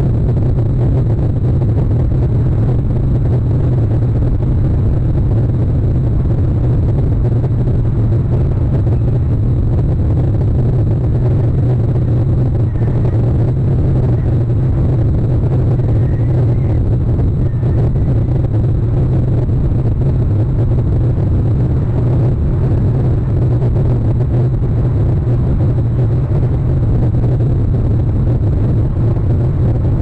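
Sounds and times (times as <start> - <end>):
steady low rumbling: 0.0 - 30.0.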